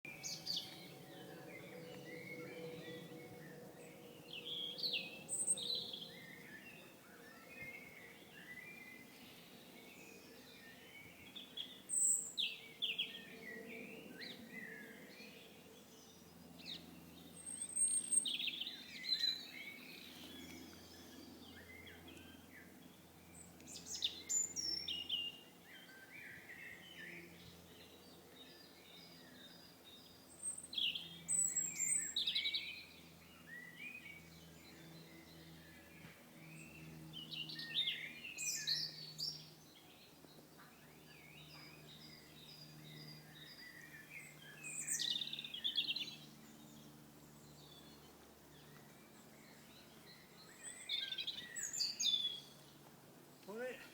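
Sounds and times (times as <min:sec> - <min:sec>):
songbirds singing: 0:00.1 - 0:53.9.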